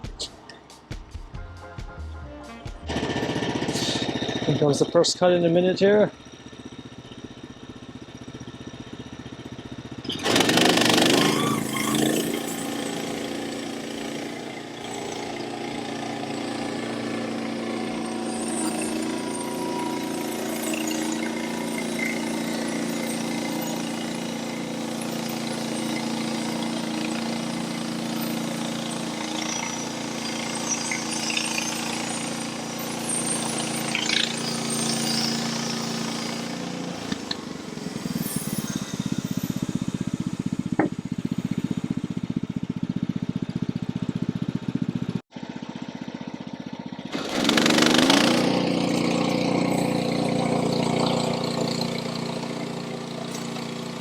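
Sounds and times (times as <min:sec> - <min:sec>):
sawmill engine running: 0:02.7 - 0:54.0
saw blade cutting log: 0:02.8 - 0:06.0, 0:10.0 - 0:43.2, 0:47.1 - 0:54.0.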